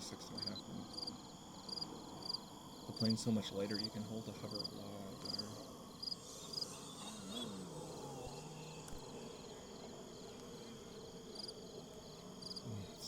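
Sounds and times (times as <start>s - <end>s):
crickets chirping: 0.0s - 13.0s
faint low hum: 0.0s - 13.0s.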